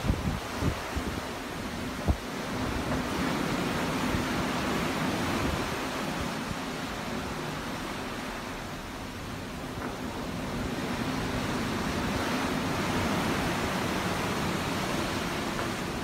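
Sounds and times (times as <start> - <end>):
ocean waves: 0.0 - 16.0.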